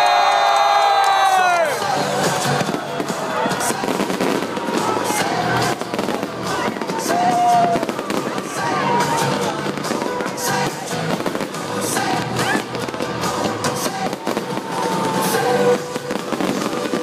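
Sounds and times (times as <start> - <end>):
fireworks bursting and crackling: 0.4 - 17.0
pop music: 1.3 - 17.0.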